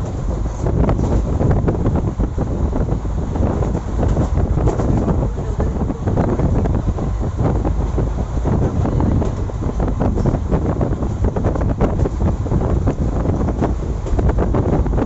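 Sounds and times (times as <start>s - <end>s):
train rumbling and clattering: 0.0s - 15.0s
wind buffeting microphone: 0.0s - 15.0s.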